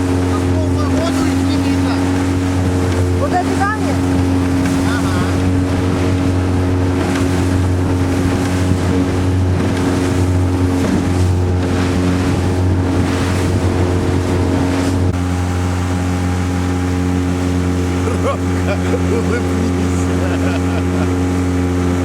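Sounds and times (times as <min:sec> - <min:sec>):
outboard motor running: 0:00.0 - 0:22.0
rushes of wind and water: 0:00.0 - 0:22.0.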